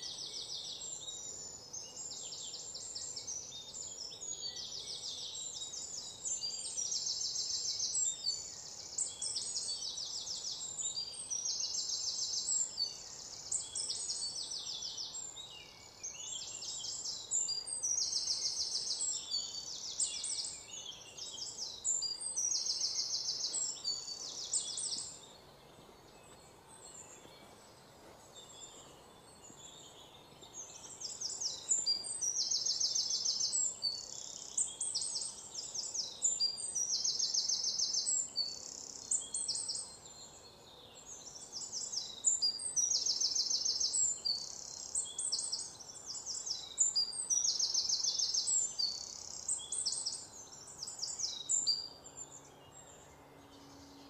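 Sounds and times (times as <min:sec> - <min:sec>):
bird chirping trills: 0:00.0 - 0:54.0.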